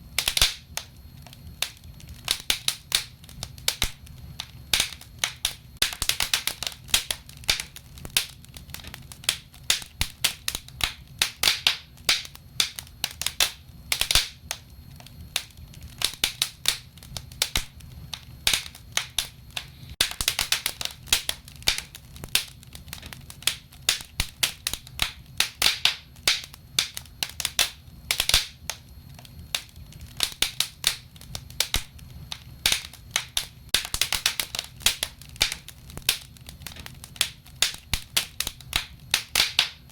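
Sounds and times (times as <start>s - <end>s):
low rumble of fire: 0.0s - 39.9s
wood fire crackling and popping: 0.0s - 39.9s.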